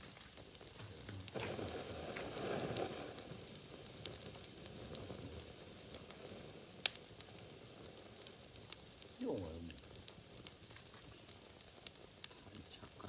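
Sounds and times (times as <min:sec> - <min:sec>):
bonfire crackling and popping: 0:00.0 - 0:13.0
sizzling hiss: 0:00.0 - 0:13.0.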